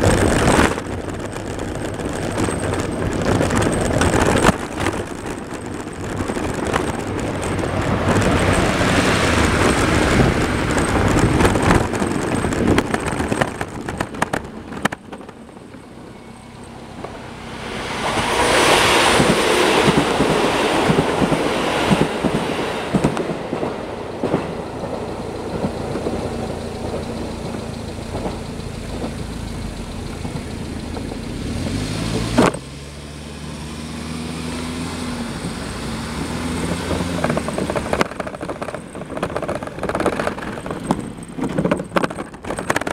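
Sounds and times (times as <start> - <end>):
cars passing: 0.0 - 41.8
low engine hum: 0.0 - 42.9.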